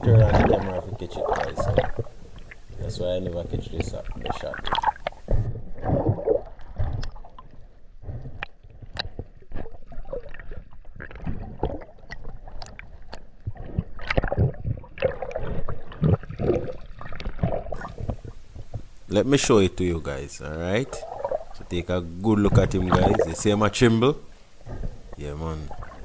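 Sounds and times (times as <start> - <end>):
water sloshing and gurgling: 0.0 - 26.0.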